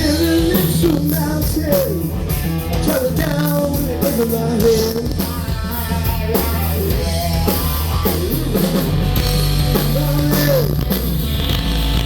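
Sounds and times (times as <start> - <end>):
bass guitar: 0.0 - 12.0
drum kit: 0.0 - 12.0
electric guitar bending notes: 0.0 - 12.0.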